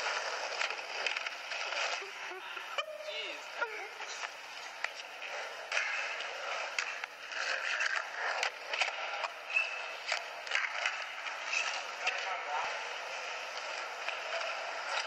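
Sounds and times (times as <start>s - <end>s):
skateboard clicks and knocks: 0.0s - 15.0s
skateboard wheels rolling on concrete: 0.0s - 15.0s.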